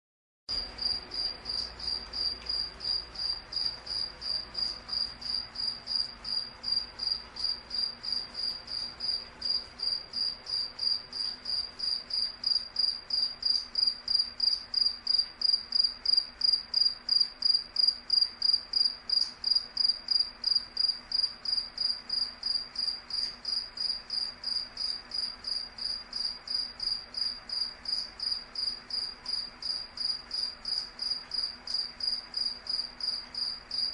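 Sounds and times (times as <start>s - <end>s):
cricket chirping: 0.5s - 33.9s.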